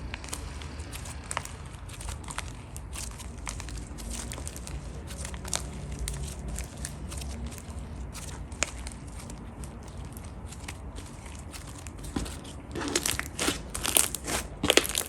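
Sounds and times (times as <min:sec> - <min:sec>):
slime squished by hand: 0:00.0 - 0:15.0.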